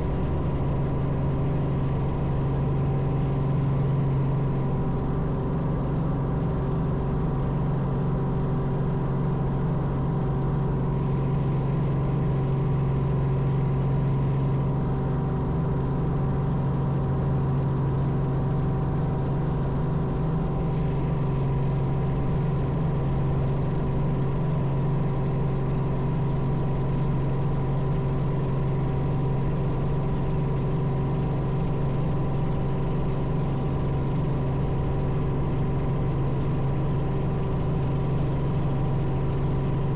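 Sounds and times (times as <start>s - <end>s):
helicopter running steadily: 0.0s - 39.9s.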